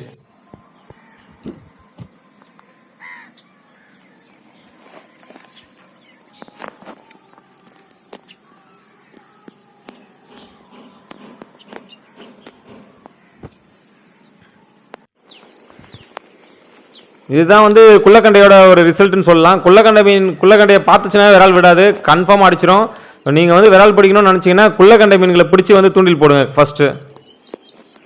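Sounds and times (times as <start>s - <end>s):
bird chirps: 0.0s - 17.4s, 22.7s - 28.0s
insects droning high-pitched: 0.0s - 28.0s.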